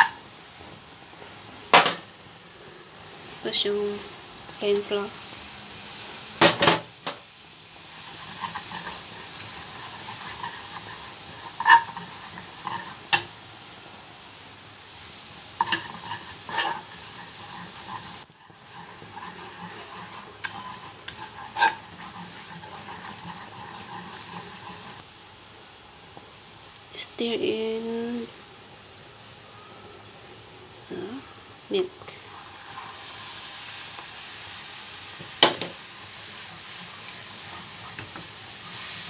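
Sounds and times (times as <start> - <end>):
butter and flour sizzling in a pan: 0.0 - 39.0.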